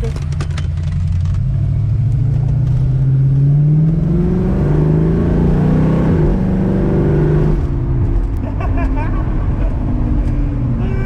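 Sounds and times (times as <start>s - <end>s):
car engine accelerating hard: 0.8s - 11.0s.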